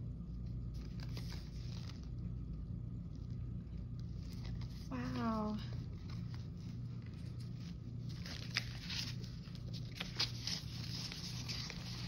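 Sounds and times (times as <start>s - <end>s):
steady low hum: 0.0s - 12.0s
paper rustling and light clicks: 0.6s - 2.2s, 3.9s - 12.0s.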